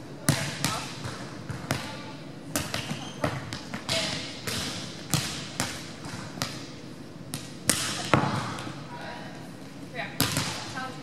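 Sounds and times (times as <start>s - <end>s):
volleyballs slapping and bouncing: 0.2s - 9.1s, 10.0s - 11.0s.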